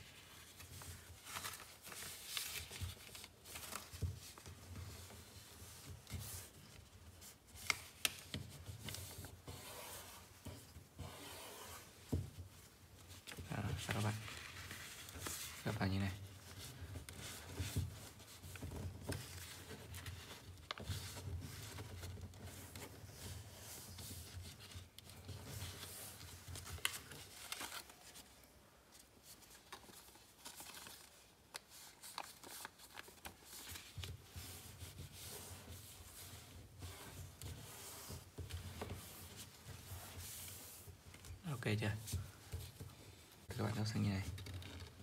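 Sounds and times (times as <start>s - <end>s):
paper crackles: 0.0s - 9.3s, 13.0s - 28.3s, 29.2s - 42.9s
paper crinkling and rubbing: 0.0s - 45.0s.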